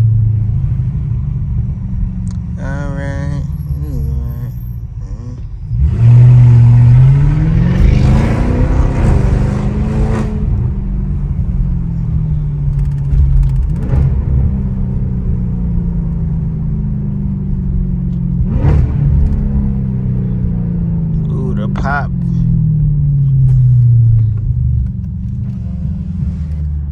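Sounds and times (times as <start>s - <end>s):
car exhaust accelerating: 0.0s - 26.9s.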